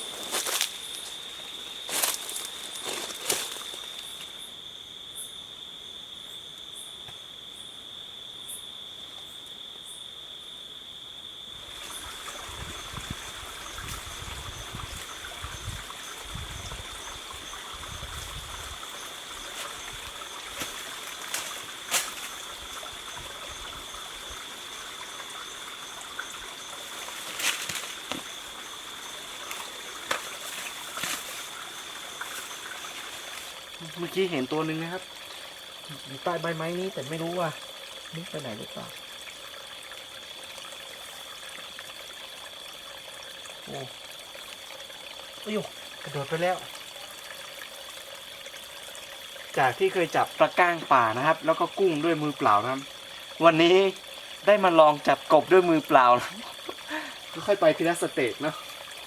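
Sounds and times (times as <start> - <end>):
stream trickling: 0.0 - 7.1, 10.9 - 59.0
night insects droning: 0.0 - 59.0.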